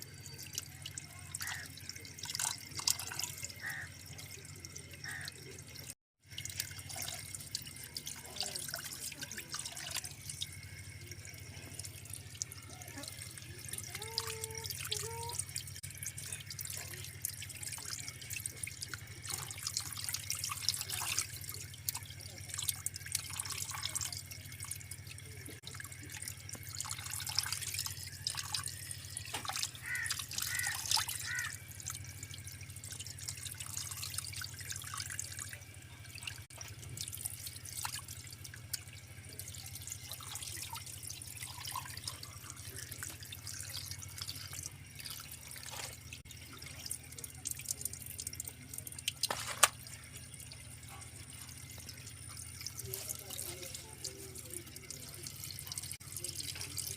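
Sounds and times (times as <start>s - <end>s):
tap water splashing in a sink: 0.3s - 56.9s.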